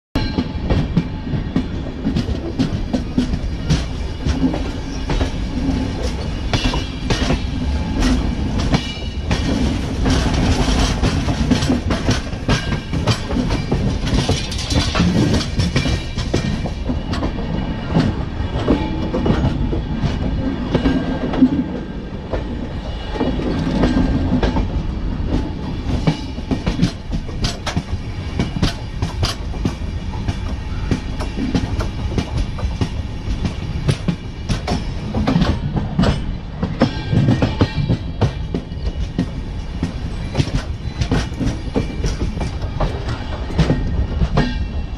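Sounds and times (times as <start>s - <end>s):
train wheels rumbling on rail: 0.2s - 44.9s.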